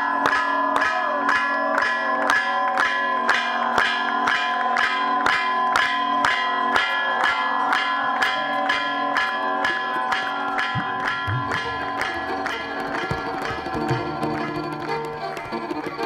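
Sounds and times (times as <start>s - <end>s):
temple bells ringing: 0.0s - 16.0s.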